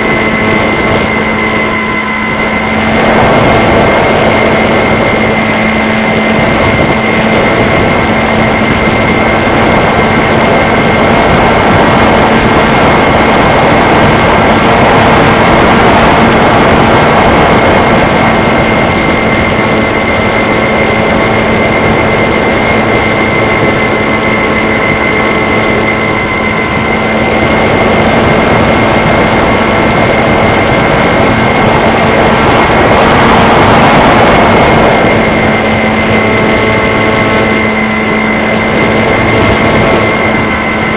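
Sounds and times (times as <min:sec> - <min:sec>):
model plane motor whine: 0:00.0 - 0:40.9
propeller rushing noise: 0:00.0 - 0:40.9.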